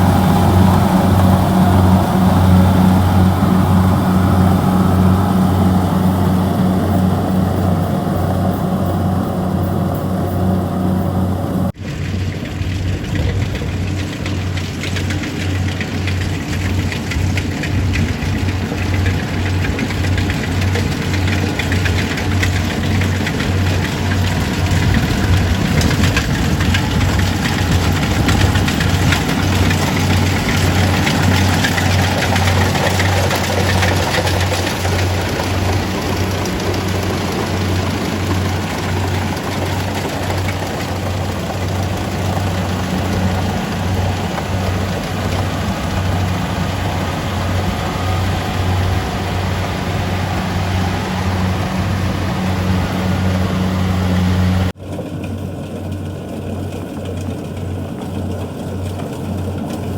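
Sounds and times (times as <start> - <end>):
combine harvester diesel engine running: 0.0 - 59.9.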